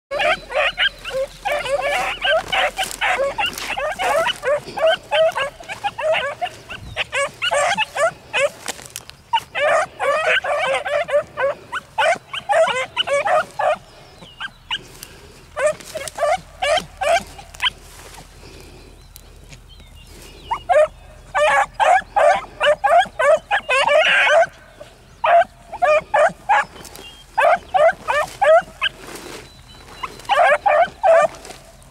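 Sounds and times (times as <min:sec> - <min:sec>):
puppies baying and yelping: 0:00.1 - 0:19.0, 0:19.6 - 0:31.9.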